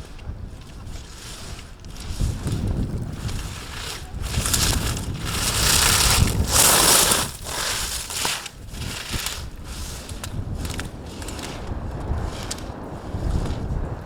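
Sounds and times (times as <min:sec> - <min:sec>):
skis scraping on snow: 0:00.0 - 0:14.0
wind rumble on microphone: 0:00.0 - 0:14.0.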